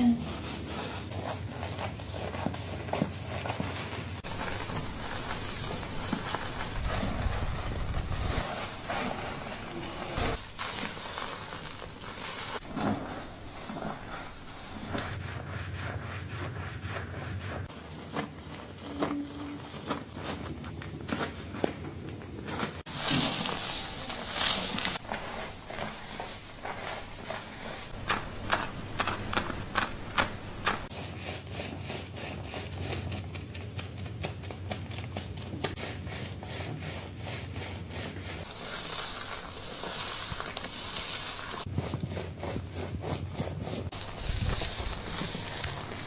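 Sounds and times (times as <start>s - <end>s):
fingertips scratching wet scalp: 0.1s - 19.0s, 23.6s - 46.0s.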